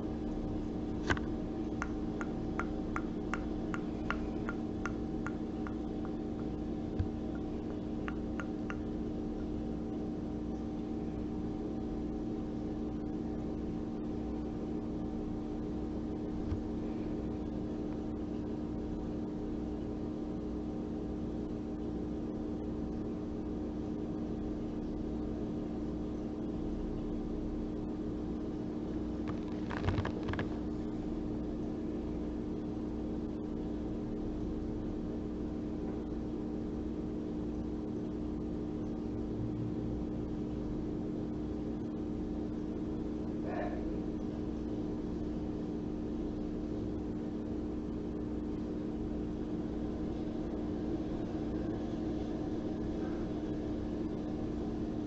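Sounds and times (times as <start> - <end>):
steady motor hum: 0.0 - 55.0.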